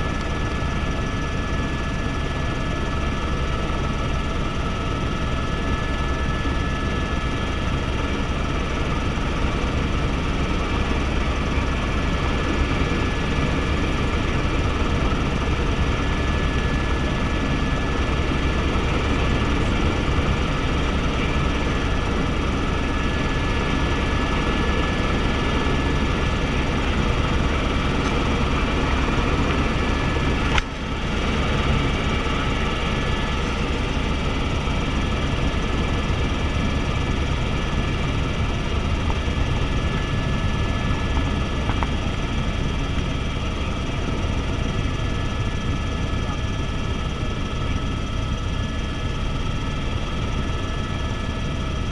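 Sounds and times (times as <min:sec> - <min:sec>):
helicopter rotor and turbine drone: 0:00.0 - 0:51.9
thin steady whine: 0:00.0 - 0:51.9.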